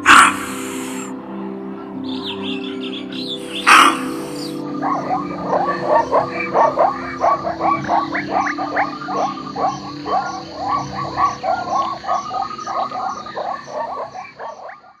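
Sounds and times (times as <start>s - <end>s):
chorus of animal calls: 0.0s - 1.2s, 2.0s - 15.0s.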